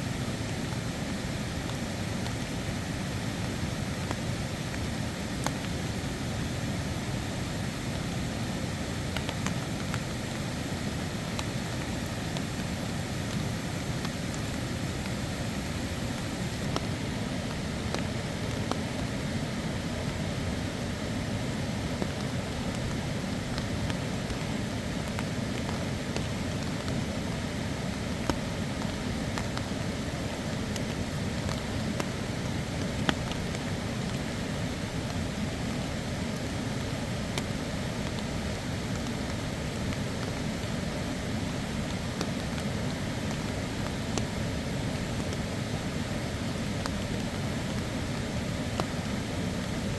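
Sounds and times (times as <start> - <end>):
steady rain: 0.0 - 49.9
sharp drip-like ticks: 0.3 - 49.9.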